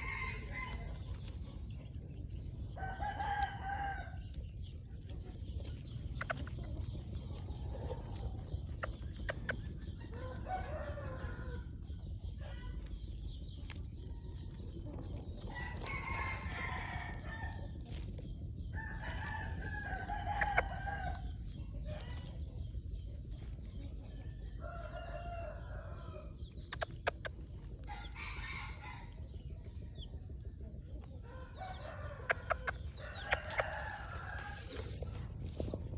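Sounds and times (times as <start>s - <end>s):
rooster crowing and clucking: 0.0s - 35.9s
steady low rumble: 0.0s - 35.9s.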